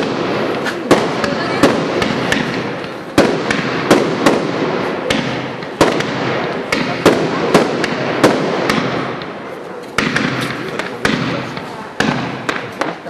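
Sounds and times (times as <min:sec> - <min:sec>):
continuous background noise: 0:00.0 - 0:13.0
fireworks bursting: 0:00.0 - 0:13.0.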